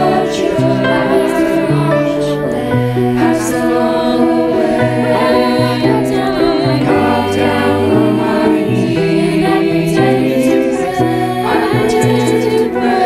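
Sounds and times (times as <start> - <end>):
girls choir singing in harmony: 0.0 - 13.0.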